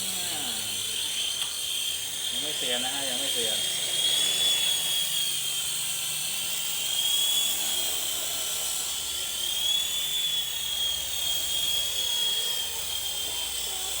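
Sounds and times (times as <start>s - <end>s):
rc helicopter motor whine: 0.0s - 14.0s.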